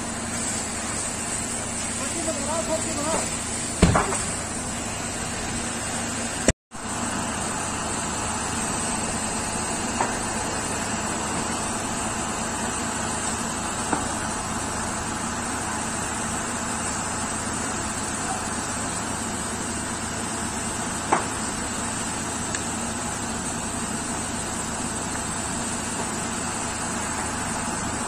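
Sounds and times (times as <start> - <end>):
fire popping: 0.0 - 6.5, 8.0 - 28.0
large fire roaring: 0.0 - 28.0.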